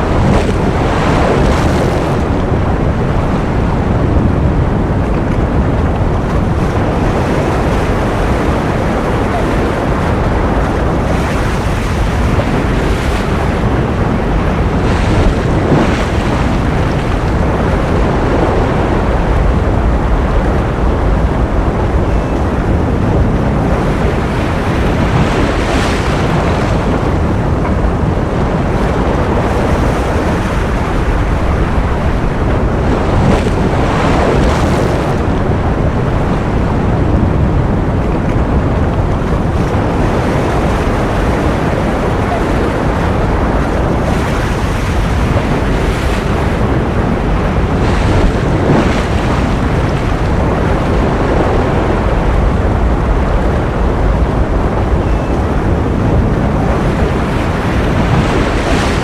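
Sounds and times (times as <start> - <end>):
ocean waves washing: 0.0 - 59.0.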